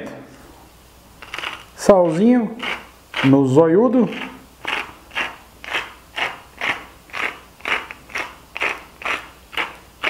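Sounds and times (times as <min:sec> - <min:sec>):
salt mill grinding: 0:01.2 - 0:10.0.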